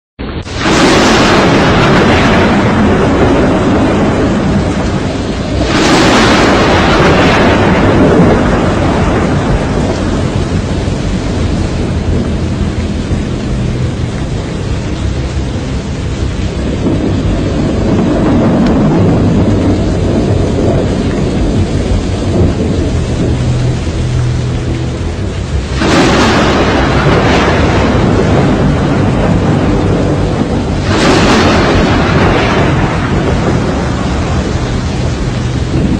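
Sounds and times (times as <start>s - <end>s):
roaring storm wind: 0.2s - 35.9s.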